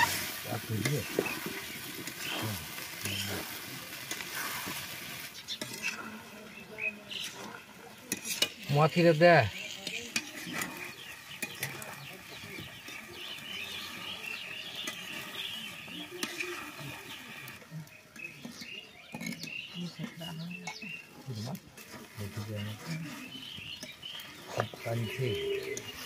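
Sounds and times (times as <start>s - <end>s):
metal spatula scraping rice: 0.0s - 17.6s, 21.3s - 26.0s
light sizzle: 0.0s - 26.0s.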